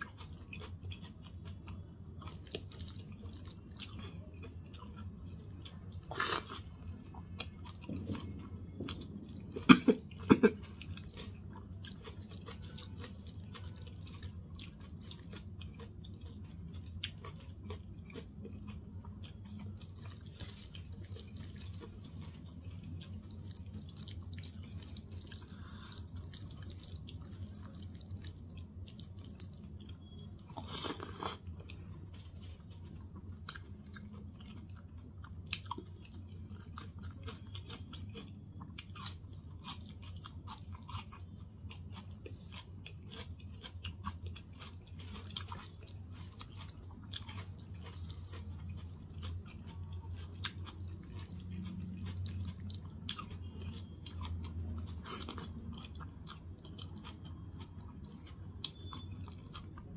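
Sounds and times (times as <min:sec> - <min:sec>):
wet chewing with smacks: 0:07.4 - 0:59.9.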